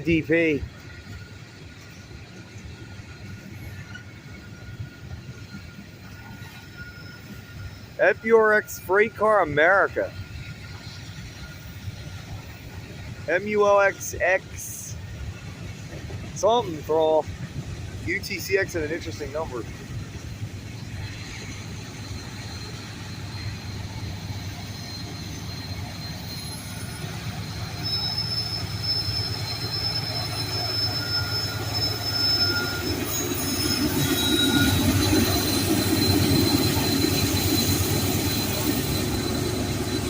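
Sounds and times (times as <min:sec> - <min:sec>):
freight train rumbling past: 0:00.0 - 0:40.0
steel wheels squealing: 0:00.0 - 0:40.0.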